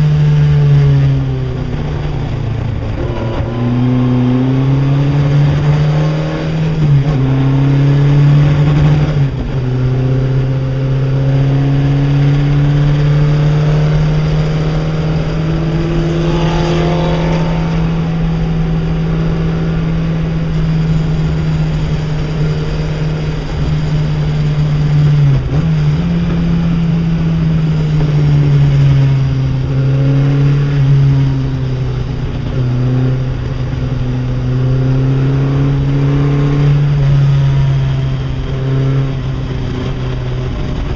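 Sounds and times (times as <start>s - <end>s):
race car engine accelerating: 0.0s - 40.9s.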